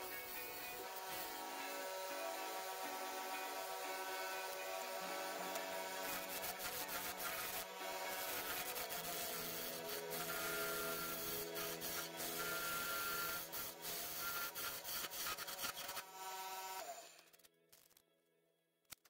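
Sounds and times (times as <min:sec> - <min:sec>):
lathe tool cutting wood: 0:00.0 - 0:17.1.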